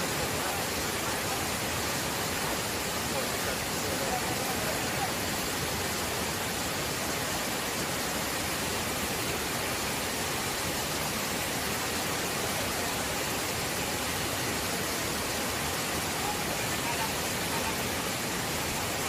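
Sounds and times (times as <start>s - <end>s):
waterfall pouring over rocks: 0.0s - 19.0s.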